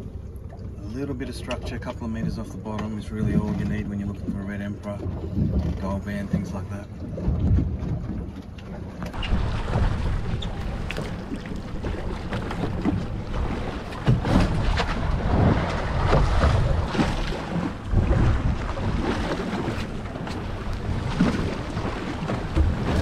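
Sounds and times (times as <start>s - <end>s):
water sloshing against hull: 0.0s - 23.0s
wind buffeting microphone: 2.2s - 23.0s.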